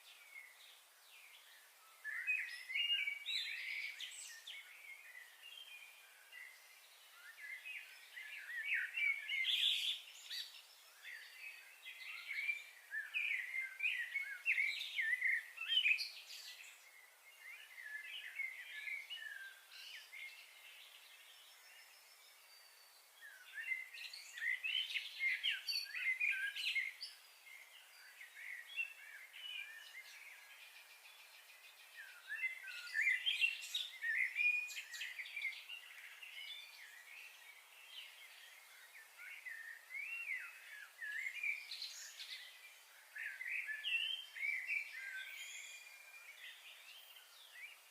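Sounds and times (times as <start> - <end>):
small birds chirping and twittering: 0.0 - 47.9.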